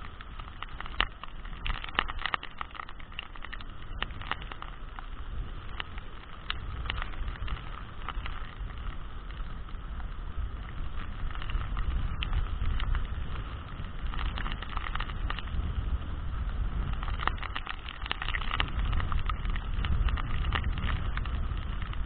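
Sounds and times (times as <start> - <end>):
heavy rain: 0.0 - 22.0
wind rumbling on microphone: 0.0 - 22.0.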